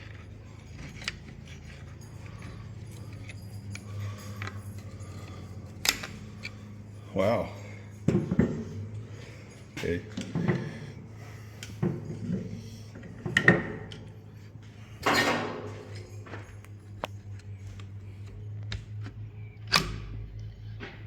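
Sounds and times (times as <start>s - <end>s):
engine parts knocking and clicking: 0.0s - 21.0s
steady low hum: 0.0s - 21.0s.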